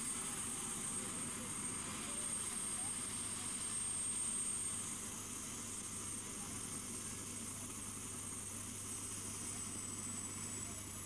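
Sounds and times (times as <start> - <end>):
helicopter running: 0.0 - 11.0
high steady whine: 0.0 - 11.0.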